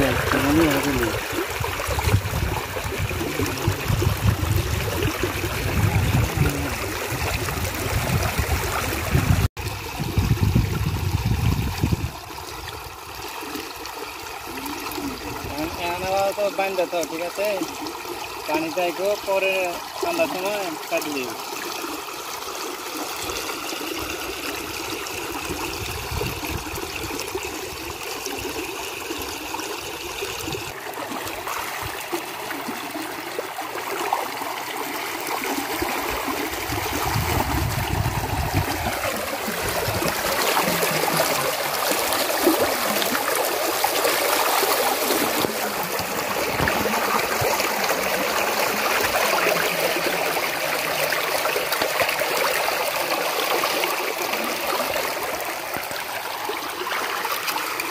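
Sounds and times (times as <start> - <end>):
water rushing through channel: 0.0 - 57.9.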